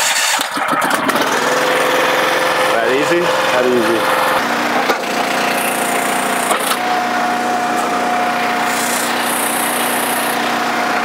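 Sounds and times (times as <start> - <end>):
log splitter engine running: 0.0 - 11.0
steady whine: 1.1 - 11.0.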